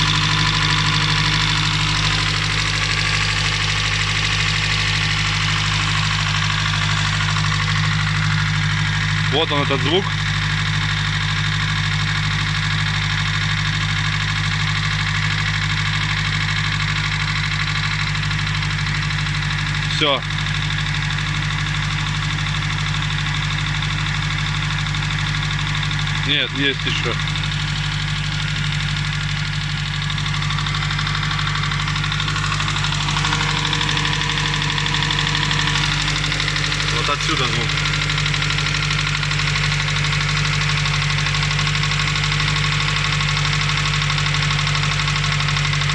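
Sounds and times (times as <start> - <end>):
car engine idling: 0.0 - 45.9
fast ticking engine knock: 0.0 - 45.9.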